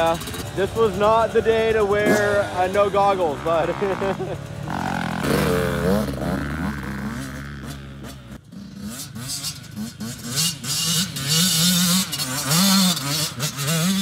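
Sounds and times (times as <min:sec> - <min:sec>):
motocross bike engine revving: 0:00.0 - 0:14.0.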